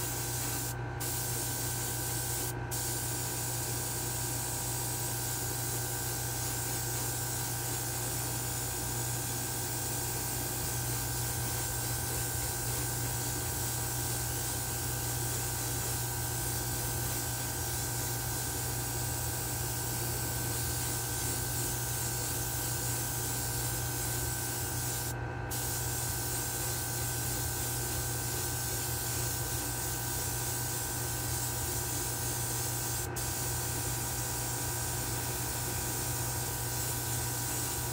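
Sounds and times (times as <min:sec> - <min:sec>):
airbrush spraying hiss: 0:00.0 - 0:37.9
exhaust fan hum: 0:00.0 - 0:37.9.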